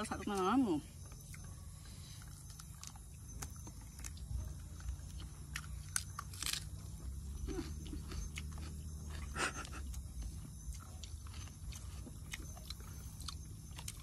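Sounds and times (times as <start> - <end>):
steady low hum: 0.0 - 14.0
chewing and lip smacks: 2.1 - 14.0.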